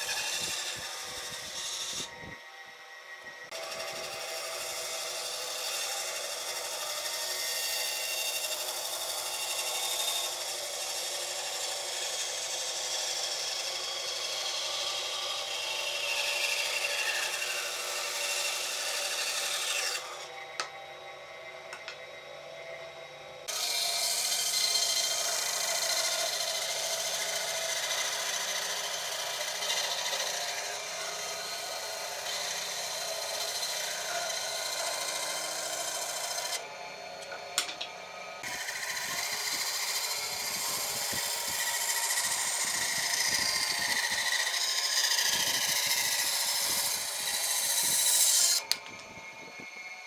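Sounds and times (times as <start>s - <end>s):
power tool working wood: 0.0s - 50.0s.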